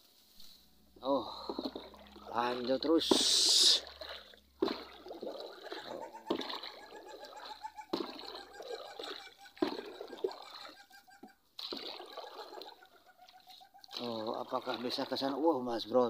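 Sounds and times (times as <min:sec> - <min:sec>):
water splashing and trickling: 0:00.9 - 0:16.0
paddle stroke in water: 0:01.2 - 0:15.4.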